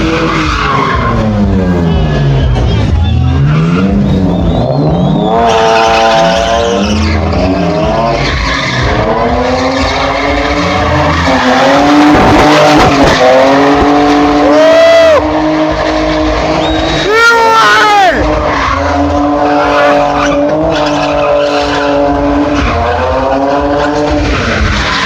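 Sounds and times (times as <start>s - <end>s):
car engine revving: 0.0s - 25.0s
tyres squealing and skidding: 0.0s - 25.0s.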